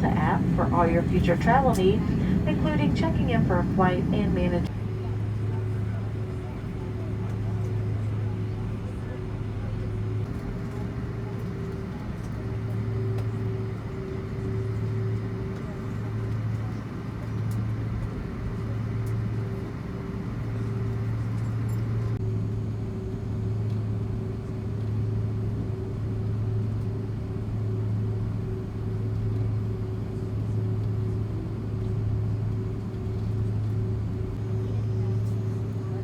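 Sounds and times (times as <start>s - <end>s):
airliner cabin drone: 0.0s - 36.0s.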